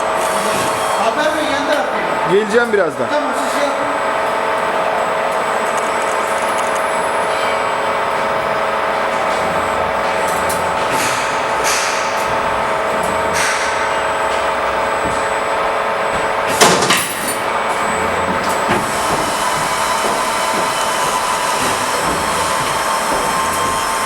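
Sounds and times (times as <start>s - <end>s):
wire bending machine humming: 0.0s - 24.0s.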